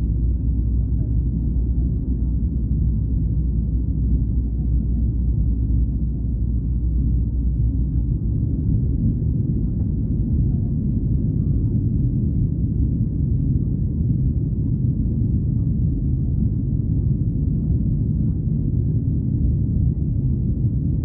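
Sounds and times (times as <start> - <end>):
jet engines rumbling in cabin: 0.0 - 21.0.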